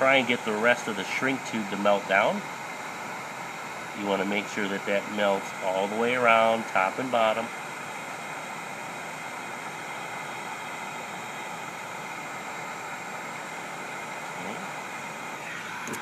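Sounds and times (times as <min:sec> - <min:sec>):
heat gun blowing hot air: 0:00.0 - 0:16.0.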